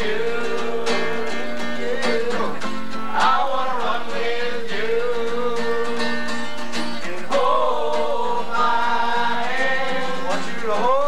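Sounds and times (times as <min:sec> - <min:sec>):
person singing: 0:00.0 - 0:06.4, 0:07.0 - 0:11.0
acoustic guitar strumming: 0:00.0 - 0:11.0.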